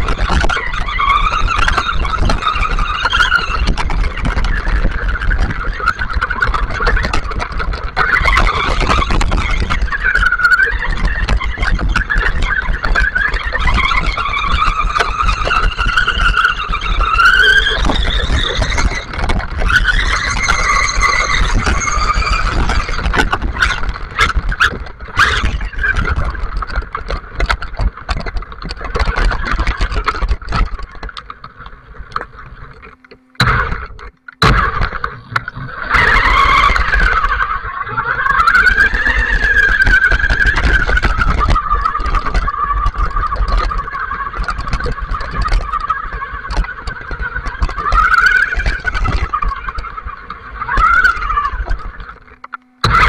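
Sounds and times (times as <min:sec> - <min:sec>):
rc car motor whining: 0:00.0 - 0:27.6, 0:28.8 - 0:53.0.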